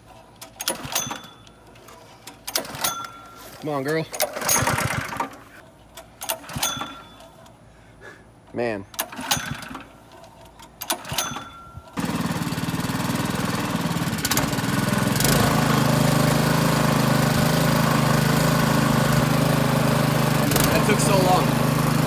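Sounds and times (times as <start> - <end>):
gas engine starting and running: 0.0 - 7.6, 8.9 - 22.0.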